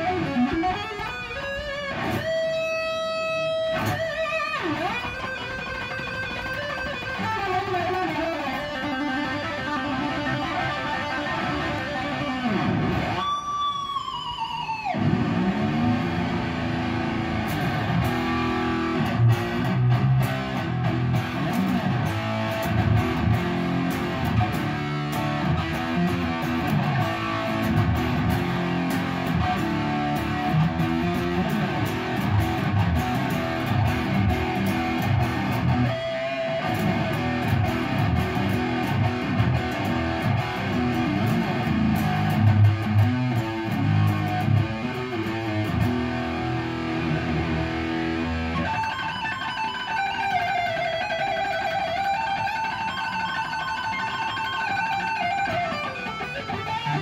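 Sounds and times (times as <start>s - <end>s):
electric guitar lead lines: 0.0s - 57.0s.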